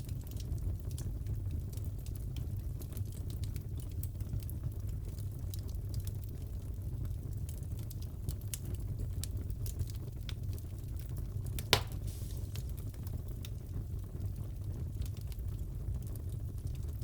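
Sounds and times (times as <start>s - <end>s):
fire flame rumble: 0.0s - 17.0s
fire snaps and pops: 0.0s - 17.0s.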